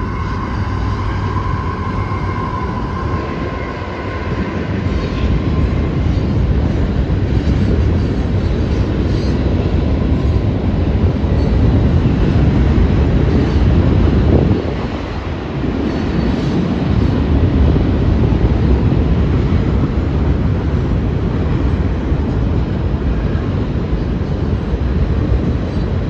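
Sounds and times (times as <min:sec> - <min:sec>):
train cars rumbling over bridge: 0:00.0 - 0:26.0.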